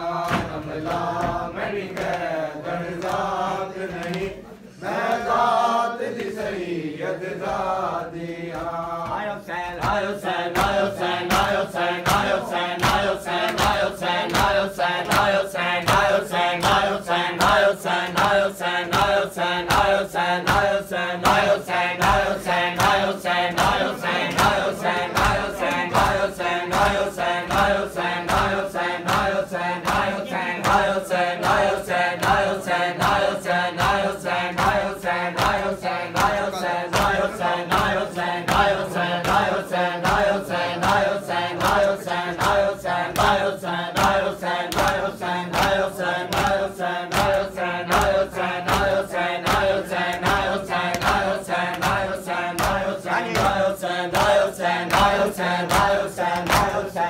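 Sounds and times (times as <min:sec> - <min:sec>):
rhythmic chest-beating strikes: 0:00.0 - 0:04.3, 0:05.1 - 0:57.0
men chanting in unison: 0:00.0 - 0:57.0.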